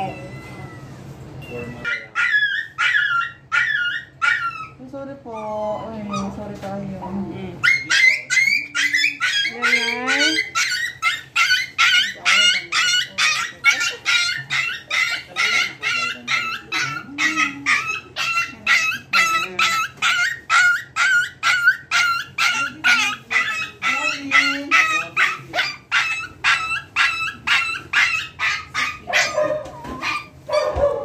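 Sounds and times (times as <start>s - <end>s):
puppy yelping and crying: 0.0s - 1.0s, 1.8s - 6.4s, 7.6s - 31.0s.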